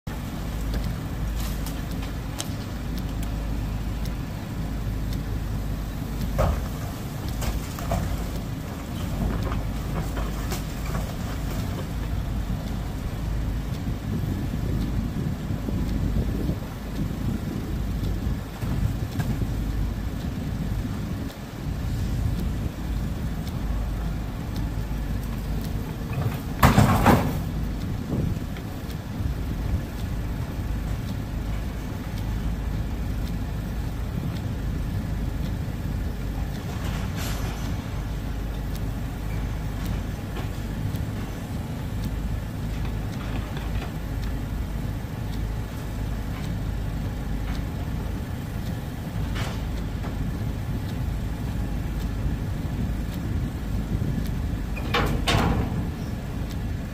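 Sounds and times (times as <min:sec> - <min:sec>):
excavator diesel engine droning: 0:00.1 - 0:56.9.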